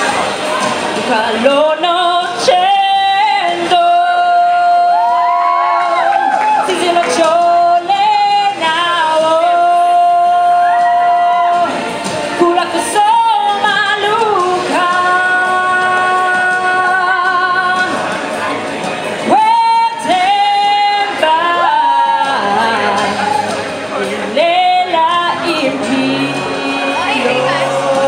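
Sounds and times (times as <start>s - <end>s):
woman singing into a microphone: 1.0s - 18.6s, 19.2s - 28.0s.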